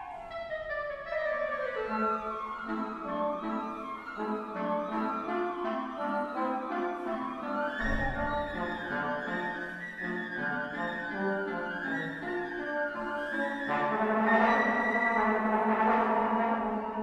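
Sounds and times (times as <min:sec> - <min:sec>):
flute: 0:00.0 - 0:17.0
piano: 0:00.0 - 0:17.0
violin: 0:00.0 - 0:17.0.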